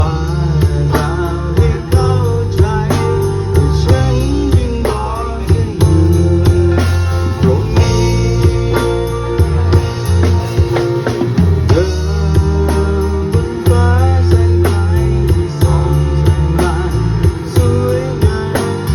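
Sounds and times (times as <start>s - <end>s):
drum-kit beat: 0.0s - 18.9s
live band playing: 0.0s - 18.9s.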